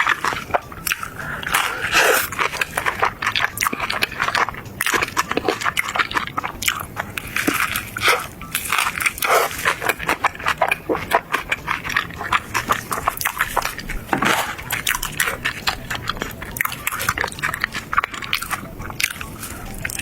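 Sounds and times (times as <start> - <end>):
wet chewing and mouth smacking: 0.0 - 20.0.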